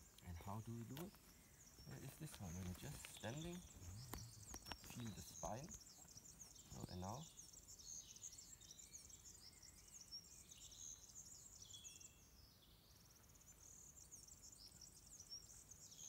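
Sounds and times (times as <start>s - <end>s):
bird trill: 0.0s - 16.0s
small birds chirping: 0.0s - 16.0s.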